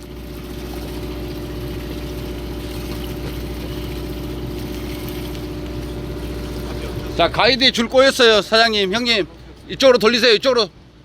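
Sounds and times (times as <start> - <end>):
boat machinery rumble: 0.0 - 11.0
constant machinery hum: 0.0 - 11.0.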